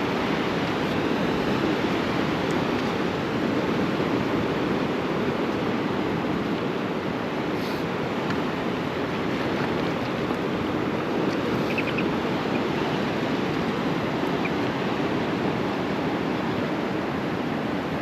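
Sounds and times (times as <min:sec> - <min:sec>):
sea surf washing on shore: 0:00.0 - 0:18.0.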